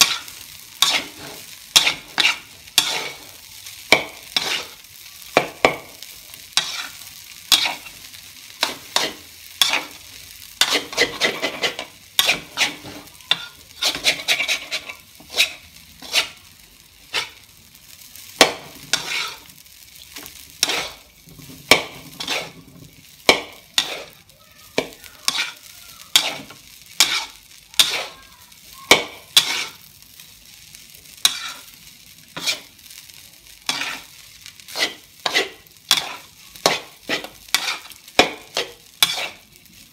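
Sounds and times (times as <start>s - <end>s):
metal spatula scraping wok: 0.0s - 30.2s, 31.1s - 33.0s, 33.6s - 39.9s
rice sizzling: 0.0s - 39.9s.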